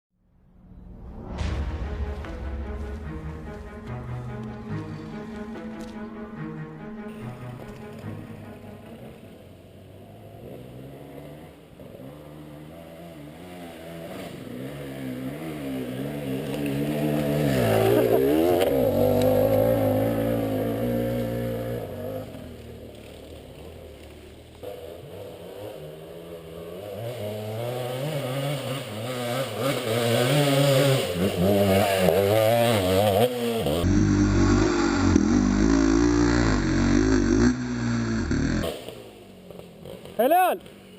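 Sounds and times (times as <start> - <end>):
motorcycle engines revving: 4.2 - 40.9.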